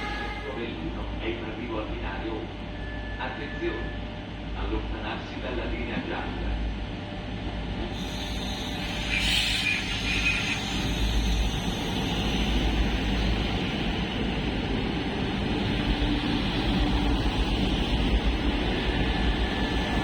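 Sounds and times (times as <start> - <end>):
diesel train engine and rail rumble: 0.0 - 20.0.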